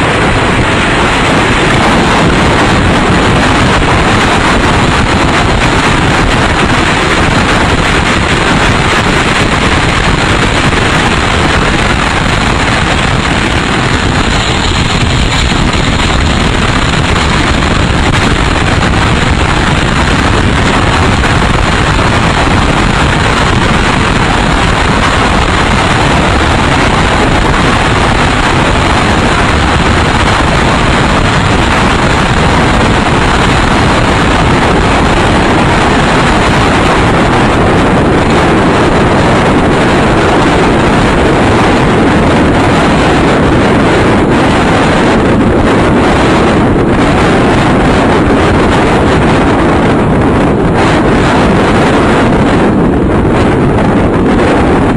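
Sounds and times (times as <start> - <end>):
wind roaring on microphone: 0.0 - 54.9.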